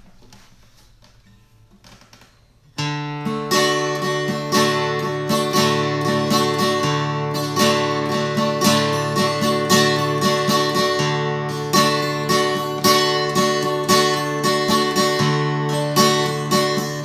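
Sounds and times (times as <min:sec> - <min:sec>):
acoustic guitar strummed: 0:01.3 - 0:17.0.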